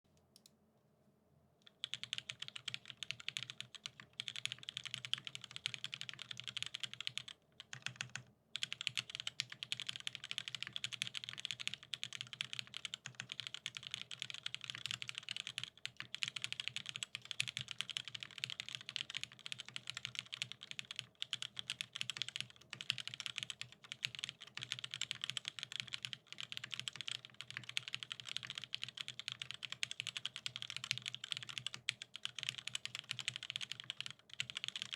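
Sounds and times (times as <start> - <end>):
fast typing on a keyboard: 1.7 - 34.9.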